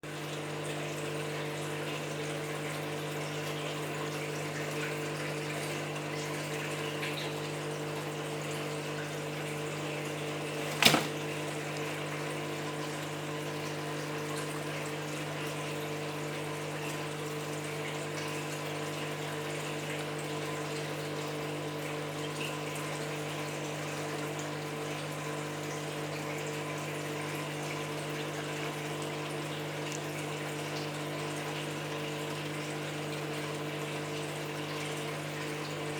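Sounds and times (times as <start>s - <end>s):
aquarium pump humming: 0.0s - 35.9s
moving water: 0.1s - 35.9s.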